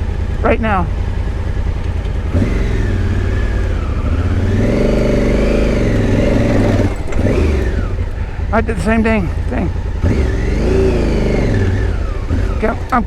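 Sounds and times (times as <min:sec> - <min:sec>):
motorcycle engine revving: 0:01.0 - 0:13.0.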